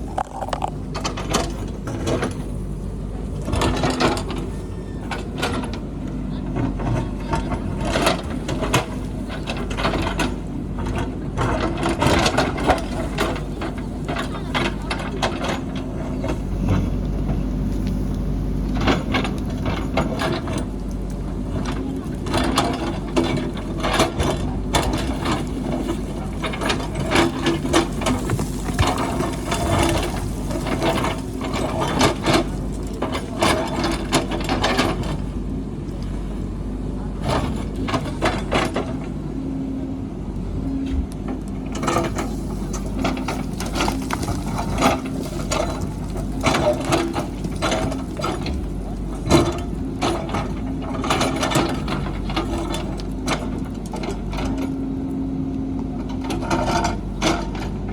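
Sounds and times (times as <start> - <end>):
diesel engine running: 0.0 - 57.9
machinery clanks and knocks: 0.0 - 57.9.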